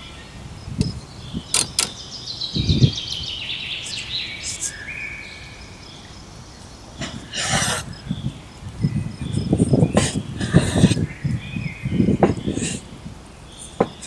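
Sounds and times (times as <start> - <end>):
bird singing: 0.0 - 7.1, 7.9 - 14.0.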